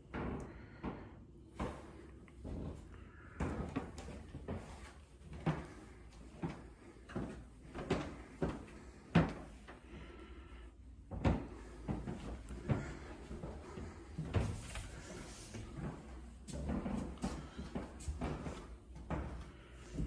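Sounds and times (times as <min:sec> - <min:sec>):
footsteps walking: 0:01.6 - 0:10.2, 0:11.1 - 0:20.0.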